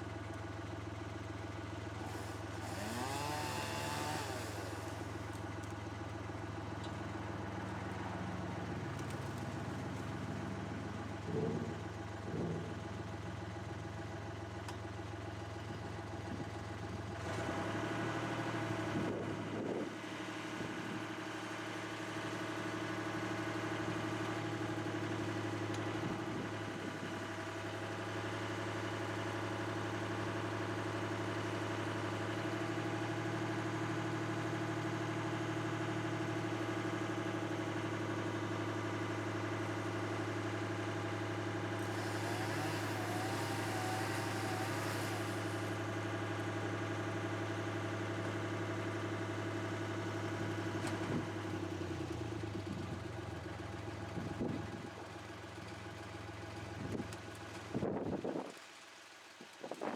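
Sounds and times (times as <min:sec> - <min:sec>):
engine idling: 0:00.0 - 0:58.4.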